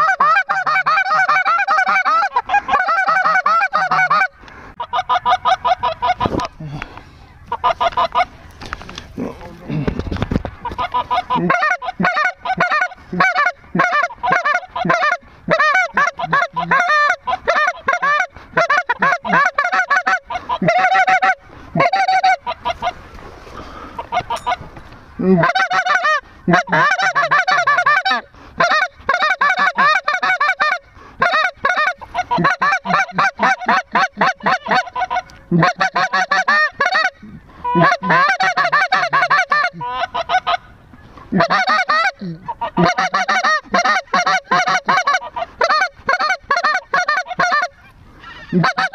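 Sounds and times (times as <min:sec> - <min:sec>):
goose calls clucking and honking: 0:00.0 - 0:48.9.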